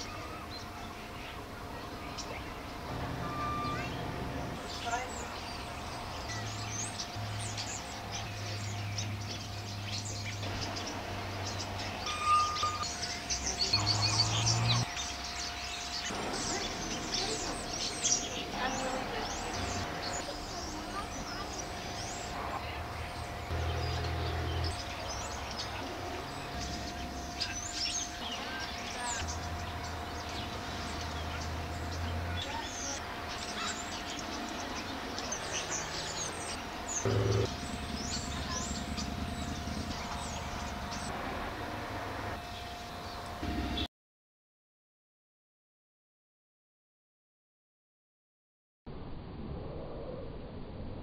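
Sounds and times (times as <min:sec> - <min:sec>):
small birds chirping: 0:00.0 - 0:41.1
steady low hum: 0:00.0 - 0:43.9.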